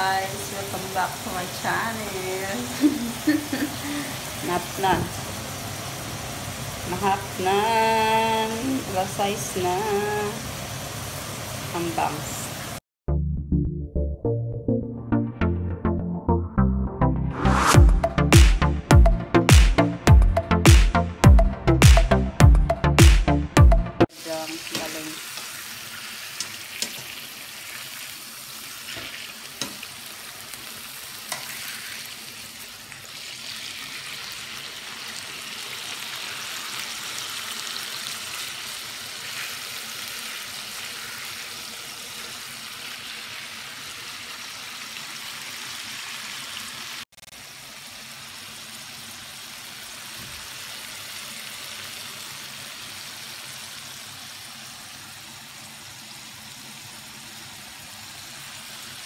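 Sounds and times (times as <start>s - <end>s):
chicken sizzling in oil: 0.0s - 12.8s, 24.0s - 59.0s.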